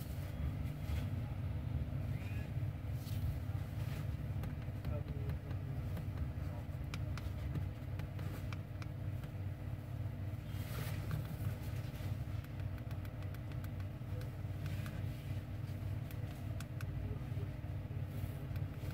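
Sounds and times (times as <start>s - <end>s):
faint hum: 0.0s - 18.9s
low mechanical rumble: 0.0s - 18.9s.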